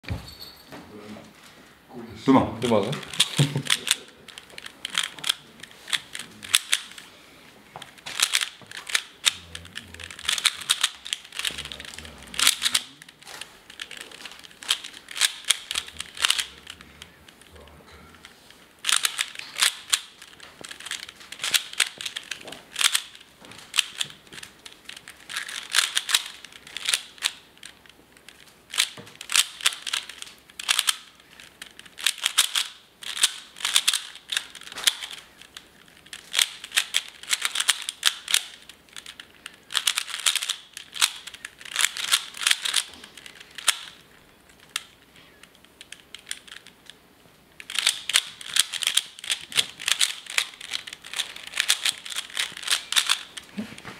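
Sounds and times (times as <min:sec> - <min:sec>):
puzzle cube plastic clicks: 0:02.6 - 0:07.1, 0:07.8 - 0:53.8.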